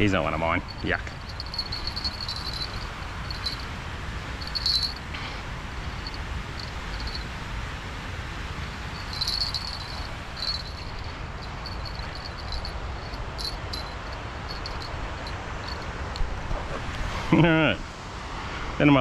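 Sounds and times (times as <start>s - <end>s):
steady low rumble: 0.0s - 16.7s.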